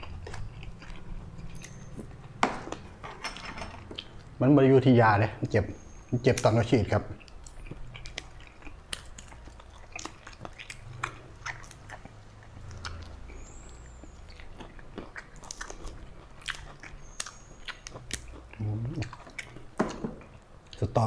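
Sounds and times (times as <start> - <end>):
person chewing food: 0.0 - 3.0, 3.8 - 4.4, 7.1 - 20.9.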